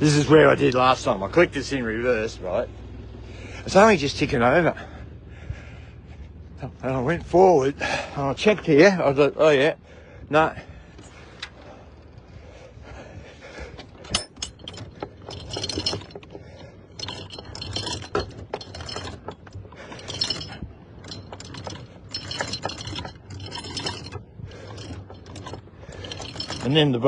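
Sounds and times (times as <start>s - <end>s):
anchor chain rattling: 0.0s - 5.5s, 6.4s - 27.0s
boat engine idling hum: 0.0s - 27.0s.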